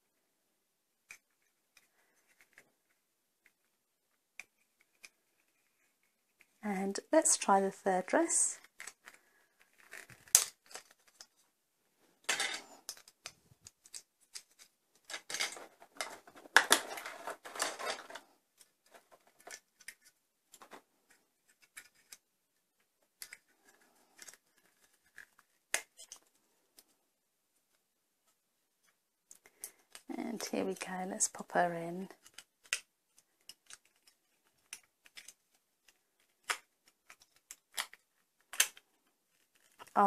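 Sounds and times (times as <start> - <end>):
plastic doll dress rustling and clicking: 1.0 - 27.0, 27.6 - 40.0.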